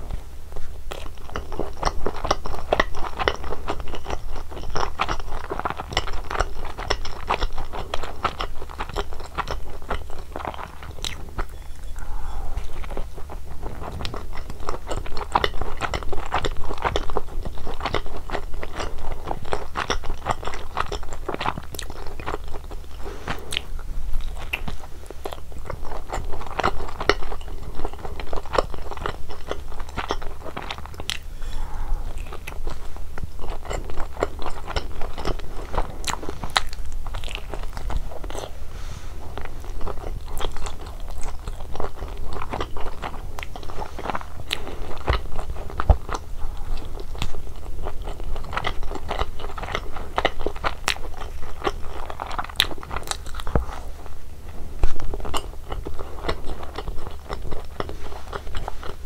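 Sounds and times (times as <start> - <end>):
crust crackling while chewing: 0.0 - 59.0
wet chewing mouth sounds: 0.0 - 59.0.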